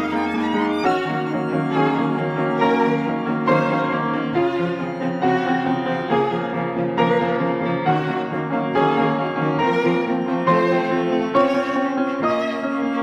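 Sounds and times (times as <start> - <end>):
piano: 0.0 - 13.0
string quartet playing: 0.0 - 13.0.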